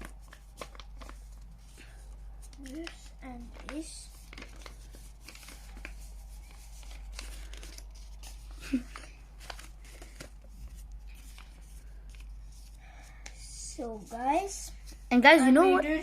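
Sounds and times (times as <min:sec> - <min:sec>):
paper folding and crinkling: 0:00.0 - 0:15.8.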